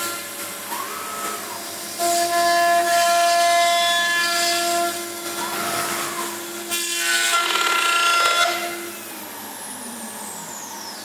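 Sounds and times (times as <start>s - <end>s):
machine whine: 0.0s - 11.0s.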